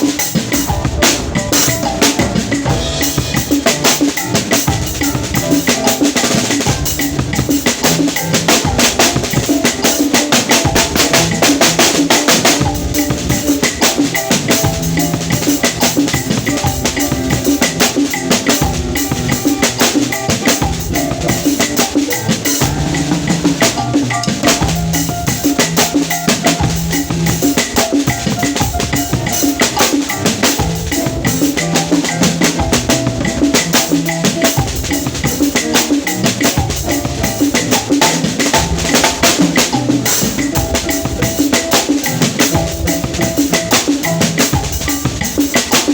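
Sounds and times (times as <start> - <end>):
drum kit playing: 0.0 - 45.9.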